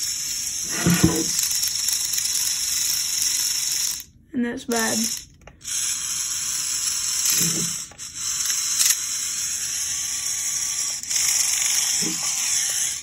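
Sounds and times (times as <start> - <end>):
motor and gears whirring: 0.0 - 4.1, 4.8 - 13.0.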